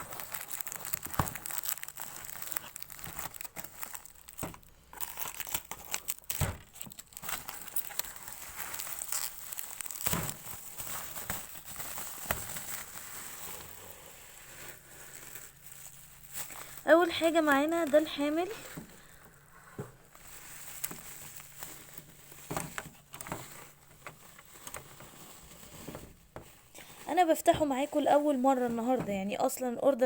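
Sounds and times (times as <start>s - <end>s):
packaging crinkling and tearing: 0.0s - 28.6s.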